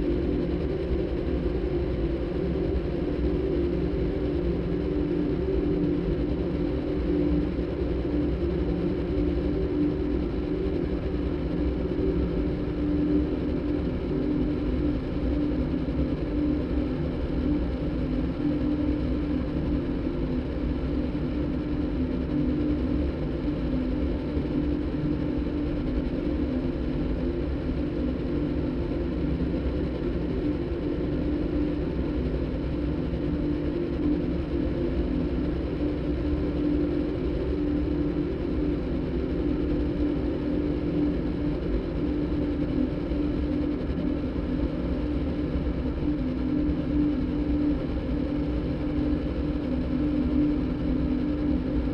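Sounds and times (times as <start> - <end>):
droning synthesized engine-like hum: 0.0 - 51.9.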